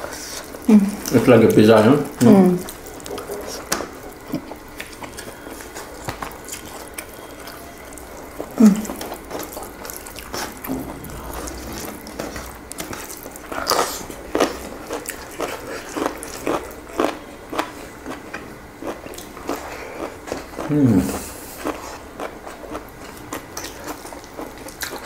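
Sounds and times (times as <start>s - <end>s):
wet chewing: 0.0s - 20.7s, 21.5s - 25.0s.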